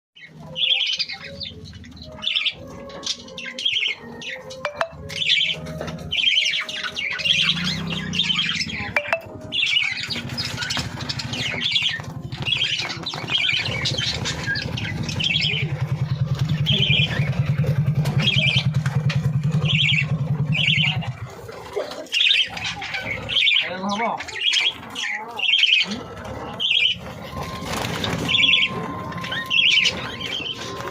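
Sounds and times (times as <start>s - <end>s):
young birds chirping: 0.2s - 30.9s.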